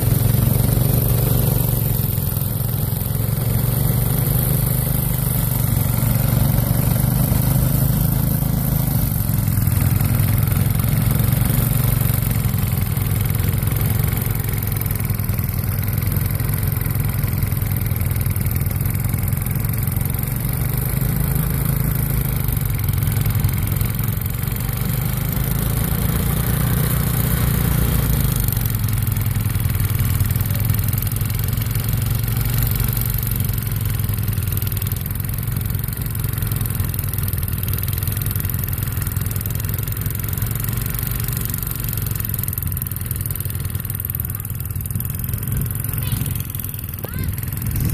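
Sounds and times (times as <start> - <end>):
snowblower engine running: 0.0 - 47.9.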